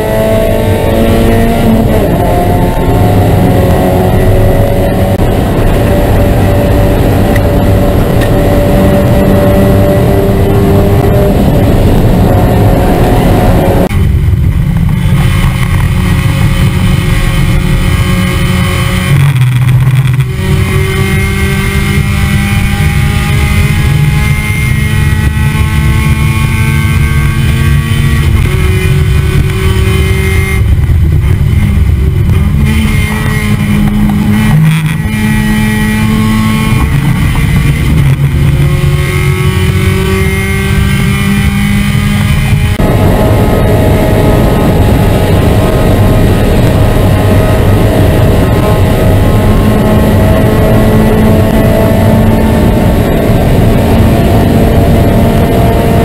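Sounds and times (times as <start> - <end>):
different car engine: 0.0 - 56.0
race car engine accelerating: 0.0 - 56.0.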